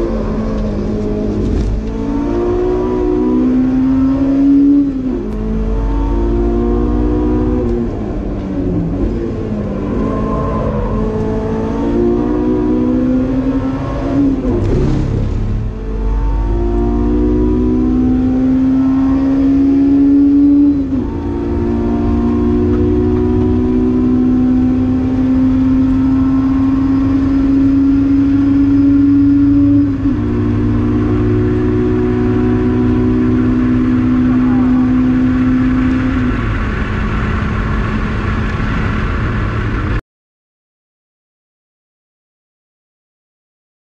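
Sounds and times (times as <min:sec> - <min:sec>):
car engine at full throttle: 0:00.0 - 0:40.0.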